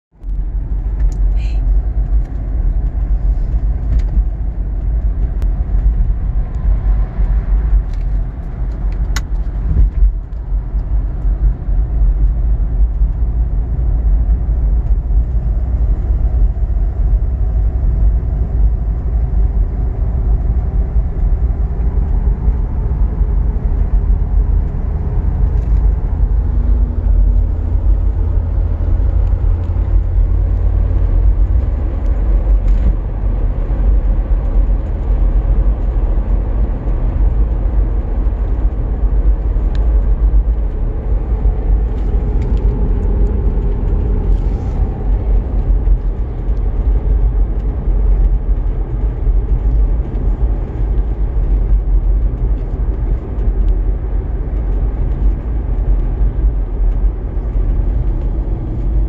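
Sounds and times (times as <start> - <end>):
tyre and road rumble: 0.1 - 59.0
car engine running: 0.2 - 59.0.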